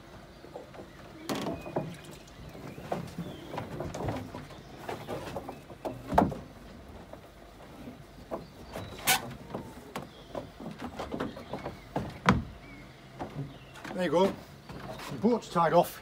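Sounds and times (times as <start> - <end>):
mooring rope and hull knocks: 0.5 - 15.3
boots on wooden boards: 0.6 - 15.4.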